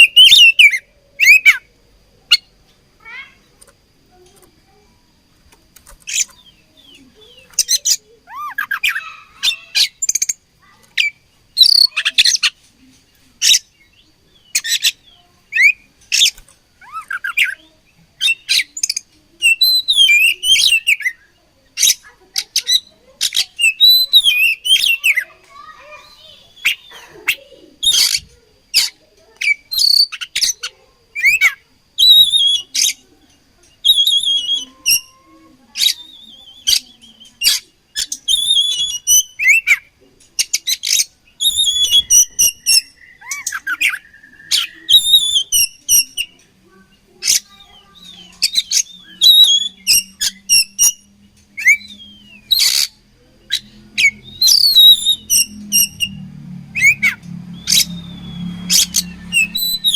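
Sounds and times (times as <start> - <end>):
magpie-robin singing chirps: 0.0 - 1.7, 2.3 - 3.3, 5.8 - 12.6, 13.4 - 59.9.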